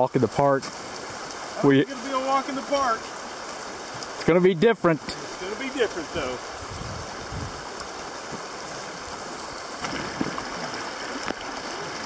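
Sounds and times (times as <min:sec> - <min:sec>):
river running over gravel: 0:00.0 - 0:12.0.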